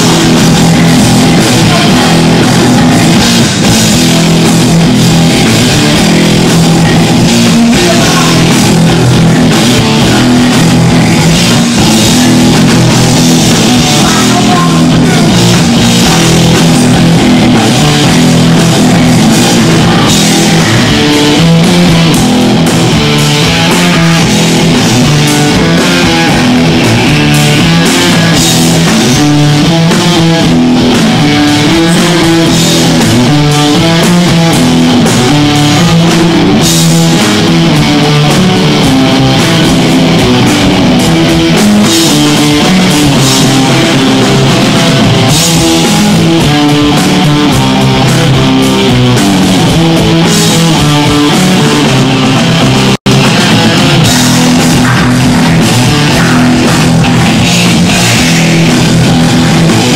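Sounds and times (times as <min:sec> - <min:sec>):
punk band playing live: 0:00.0 - 0:59.9.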